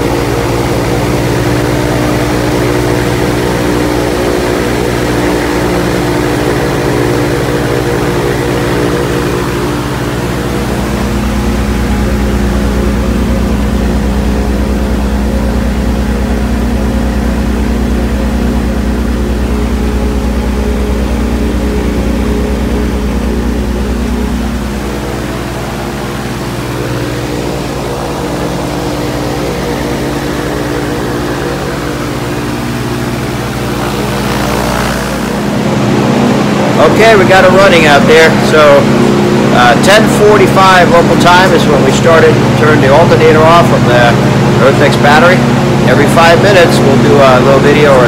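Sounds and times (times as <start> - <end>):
aircraft engine droning: 0.0 - 48.0.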